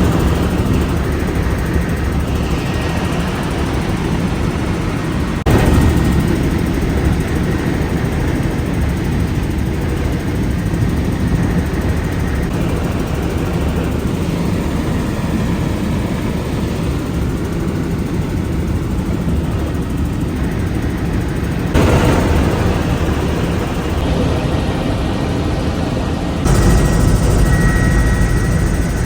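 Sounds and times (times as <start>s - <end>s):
helicopter engine and rotor: 0.0s - 29.0s.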